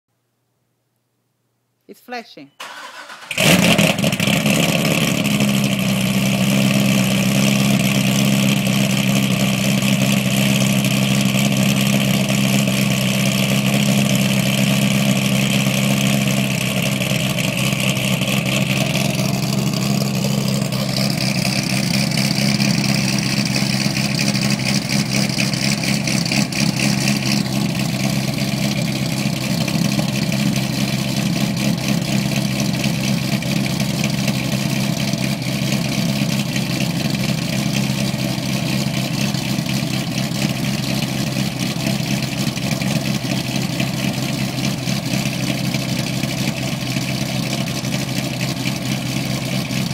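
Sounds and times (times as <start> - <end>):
loud car engine idling: 3.0 - 49.9.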